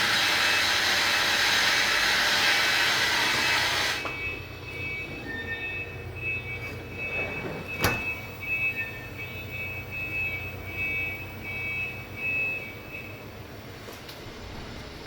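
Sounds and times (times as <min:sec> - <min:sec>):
gas boiler humming: 0:00.0 - 0:15.0.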